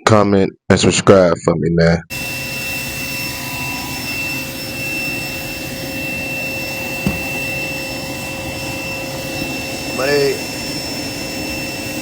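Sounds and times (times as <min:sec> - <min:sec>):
jet engine whine: 0:02.1 - 0:12.0.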